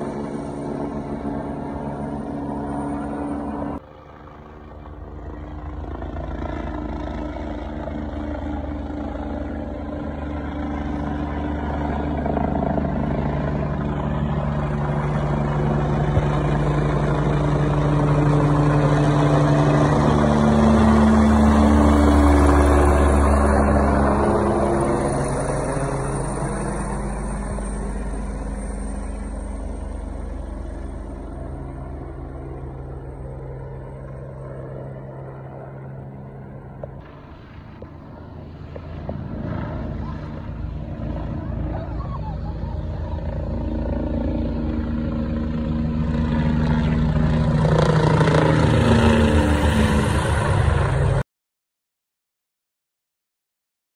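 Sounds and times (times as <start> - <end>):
helicopter flying overhead: 0.0 - 51.2.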